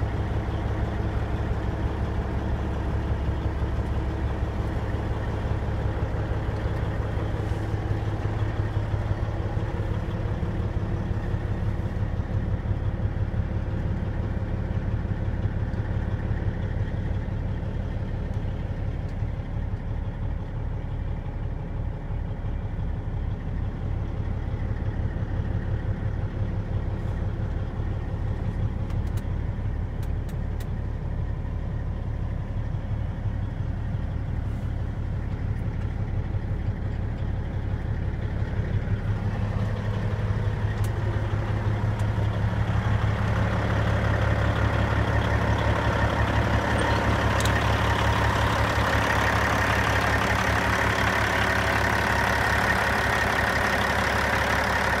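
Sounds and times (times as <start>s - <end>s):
diesel truck engine idling and revving: 0.0s - 55.0s.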